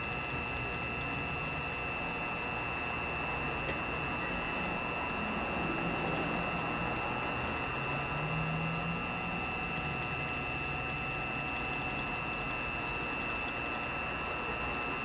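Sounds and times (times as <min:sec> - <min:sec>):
wood lathe motor whine: 0:00.0 - 0:15.0.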